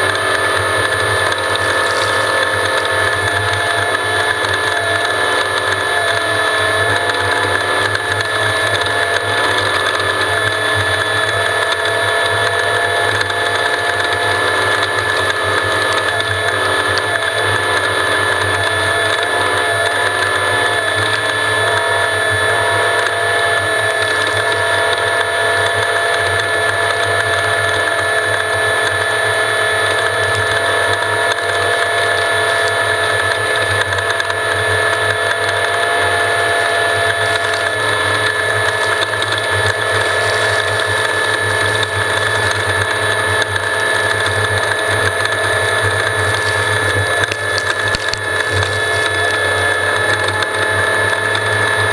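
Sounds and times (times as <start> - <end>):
off-road vehicle mechanical whine: 0.0 - 51.9.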